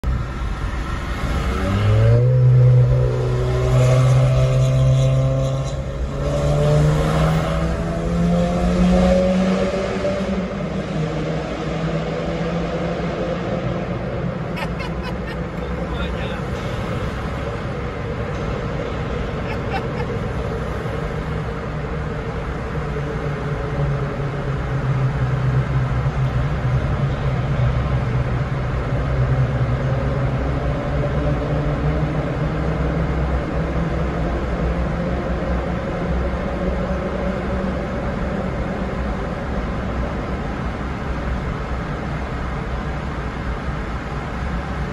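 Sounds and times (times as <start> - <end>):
car engine drone: 0.0 - 44.9
road noise: 0.0 - 44.9.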